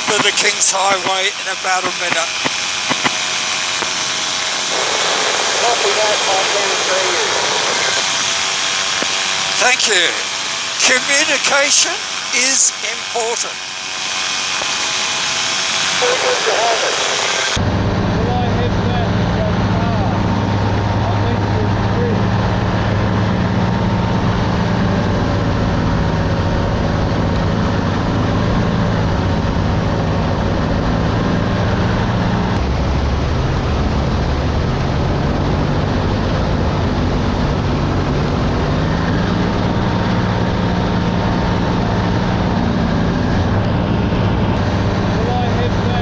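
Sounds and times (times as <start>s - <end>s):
paramotor engine and propeller: 0.0s - 46.0s.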